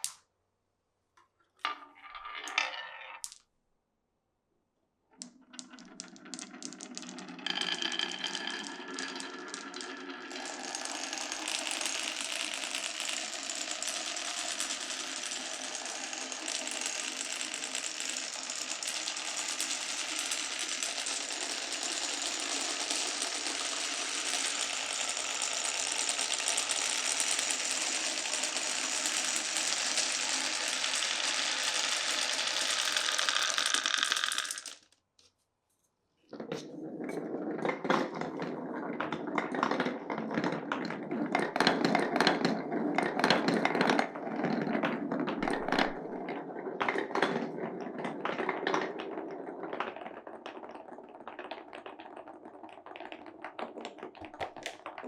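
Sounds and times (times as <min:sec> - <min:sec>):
marbles rolling on wooden track: 0:01.6 - 0:03.5, 0:05.2 - 0:35.0, 0:36.3 - 0:55.0
marbles clacking on track: 0:05.2 - 0:35.0, 0:37.1 - 0:55.0.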